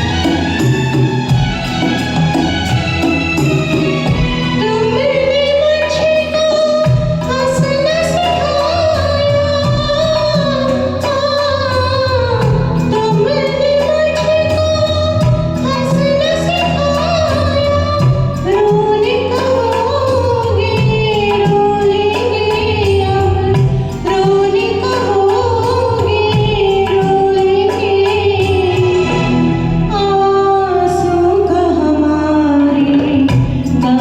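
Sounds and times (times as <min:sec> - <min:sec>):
karaoke backing track: 0:00.0 - 0:34.0
woman singing: 0:00.0 - 0:34.0.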